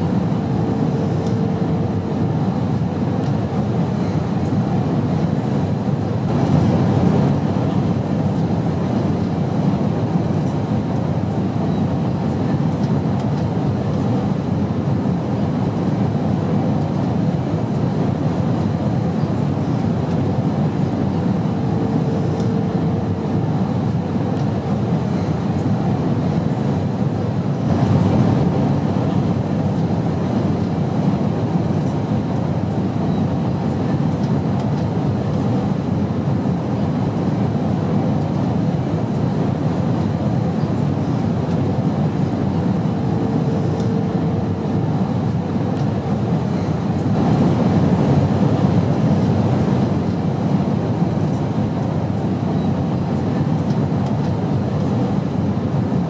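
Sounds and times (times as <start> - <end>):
airplane noise: 0.0 - 56.0.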